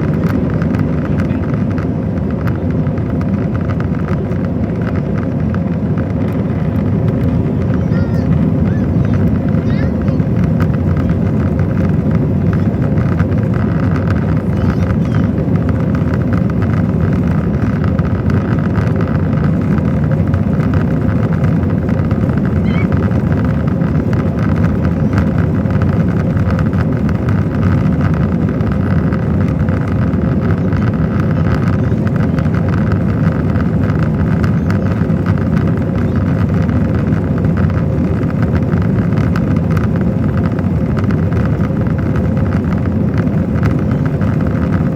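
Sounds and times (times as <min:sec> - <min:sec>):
airliner cabin engine noise: 0:00.0 - 0:44.9.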